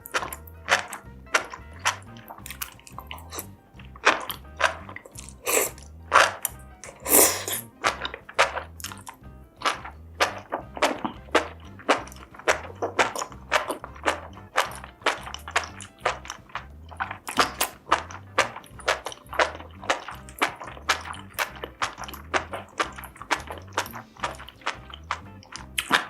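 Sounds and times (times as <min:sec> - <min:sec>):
background music beat: 0:00.0 - 0:26.0
crunchy chewing and biting: 0:00.0 - 0:26.0.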